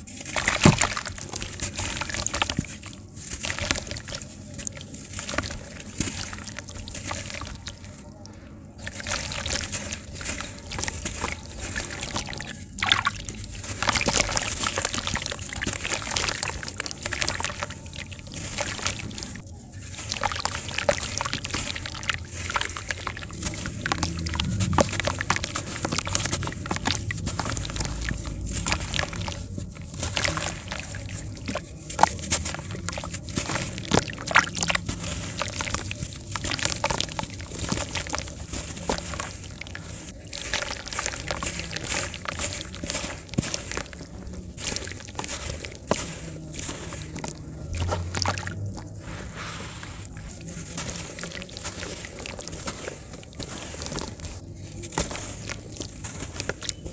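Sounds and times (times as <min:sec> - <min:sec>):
water sloshing and dribbling: 0:00.0 - 0:56.9
wet sand crumbling: 0:00.0 - 0:56.9.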